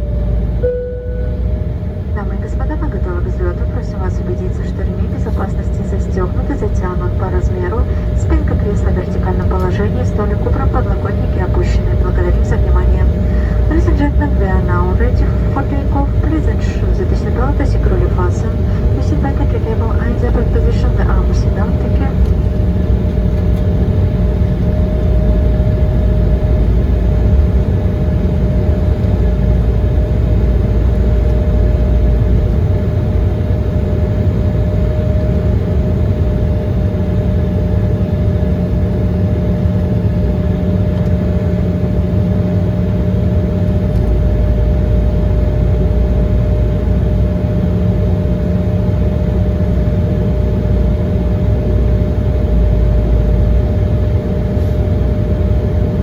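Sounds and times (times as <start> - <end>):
airliner cabin rumble: 0.0 - 56.0
steady engine hum: 0.0 - 56.0.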